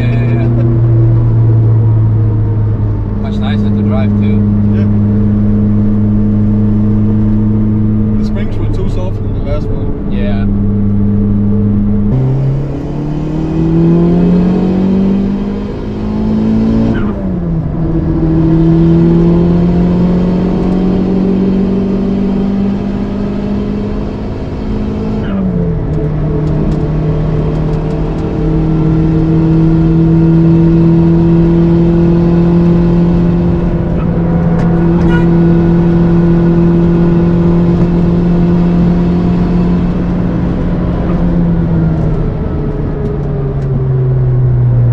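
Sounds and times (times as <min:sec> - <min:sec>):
turbocharged car engine revving: 0:00.0 - 0:43.6.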